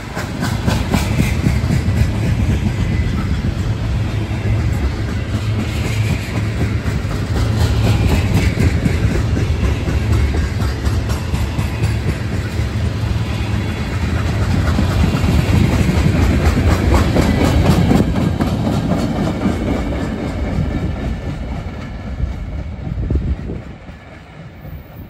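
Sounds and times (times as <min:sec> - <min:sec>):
freight train rolling past: 0:00.0 - 0:25.0
wheels clacking over rail joints: 0:00.0 - 0:25.0.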